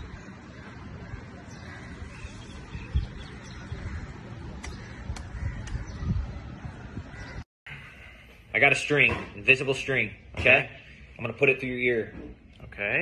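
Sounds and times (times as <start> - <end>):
birds calling: 0.0 - 11.3.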